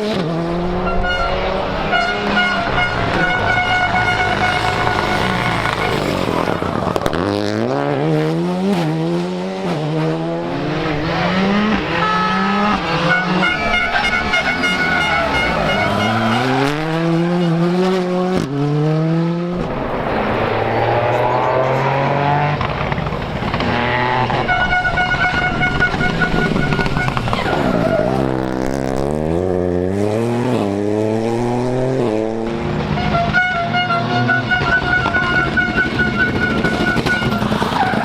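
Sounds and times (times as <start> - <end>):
car engine accelerating through gears: 0.0 - 38.0.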